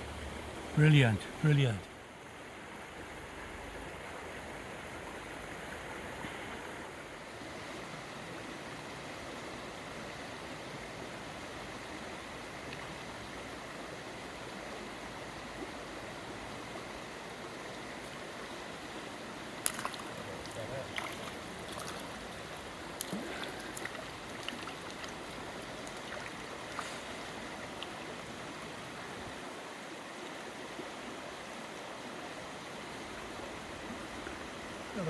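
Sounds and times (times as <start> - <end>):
stream rushing water: 0.0 - 35.0.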